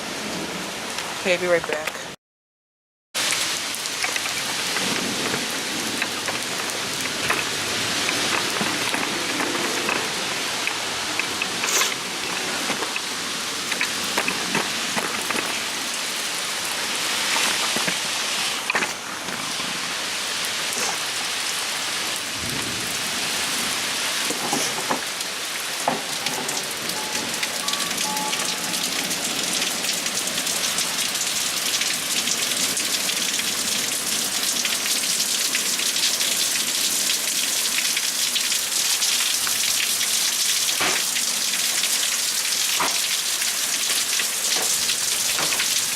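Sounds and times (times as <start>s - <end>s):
heavy rain on hard surfaces: 0.0s - 2.2s, 3.2s - 45.9s.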